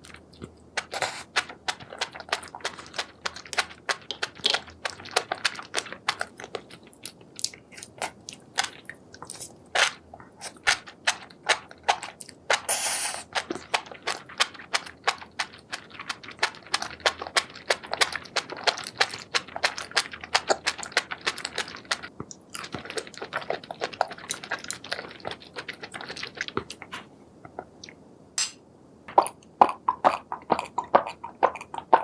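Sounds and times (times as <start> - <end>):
chewing seafood: 0.0 - 28.0, 29.1 - 32.0.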